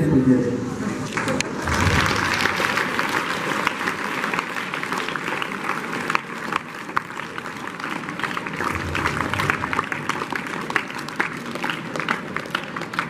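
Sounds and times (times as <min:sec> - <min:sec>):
audience applauding: 0:01.1 - 0:13.0.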